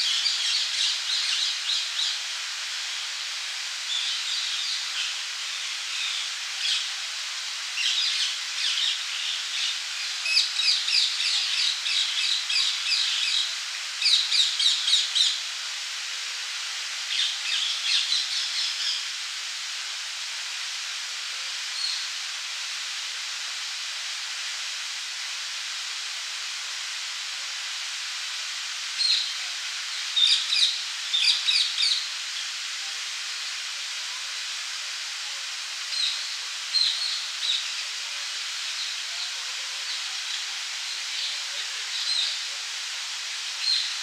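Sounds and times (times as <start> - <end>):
fountain water splashing: 0.0 - 44.0.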